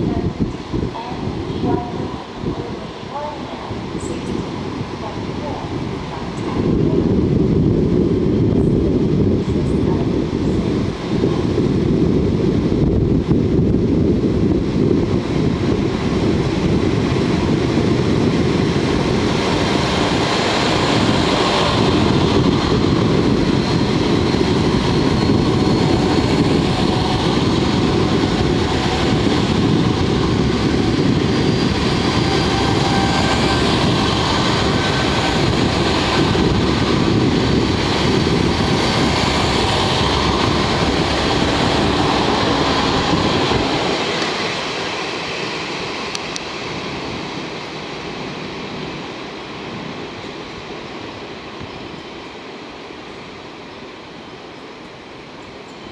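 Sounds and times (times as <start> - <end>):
wheels rumbling on rails: 0.0 - 52.4
diesel train engines running: 0.0 - 55.9.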